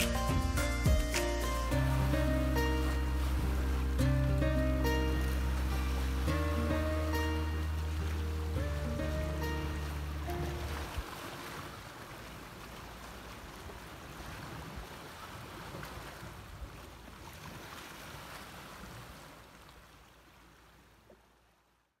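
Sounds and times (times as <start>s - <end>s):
wind: 0.0s - 22.0s
small waves washing on beach: 1.1s - 21.2s.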